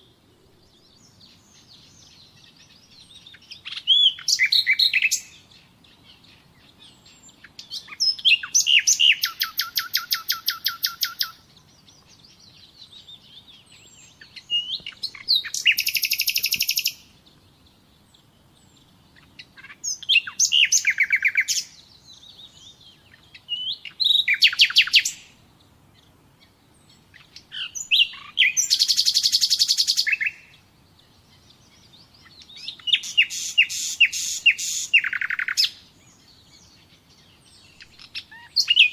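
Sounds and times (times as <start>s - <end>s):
songbird singing fast trills: 0.0s - 38.9s.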